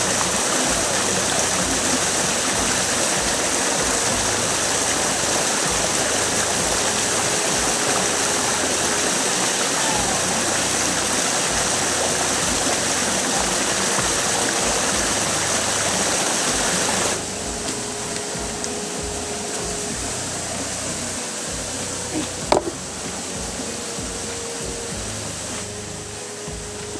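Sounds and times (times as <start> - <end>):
rushing water of stream: 0.0 - 26.9.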